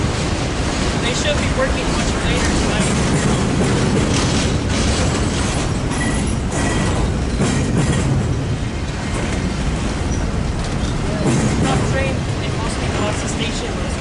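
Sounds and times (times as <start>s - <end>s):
train wheels rumbling on rails: 0.0s - 14.0s
wheels clicking over rail joints: 0.0s - 14.0s.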